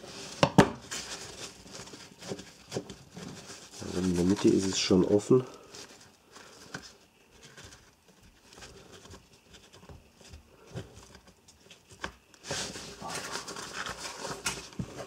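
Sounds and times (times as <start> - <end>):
nylon pouch rustling and scratching: 0.0 - 10.2, 10.8 - 15.0.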